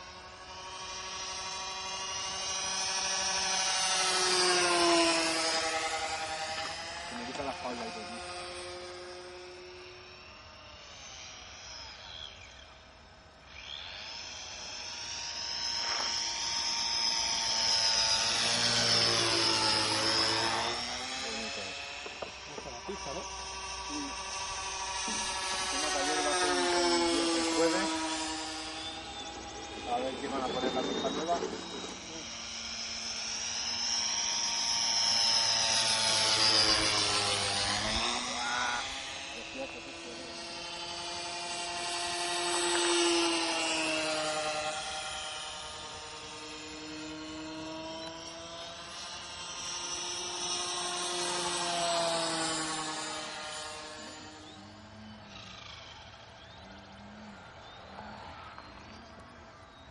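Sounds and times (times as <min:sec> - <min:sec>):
model plane engine buzzing: 0:00.0 - 0:59.9.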